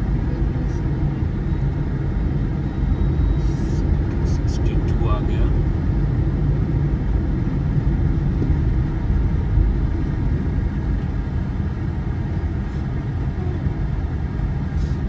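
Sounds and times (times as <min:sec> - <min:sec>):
car driving in traffic: 0:00.0 - 0:15.0.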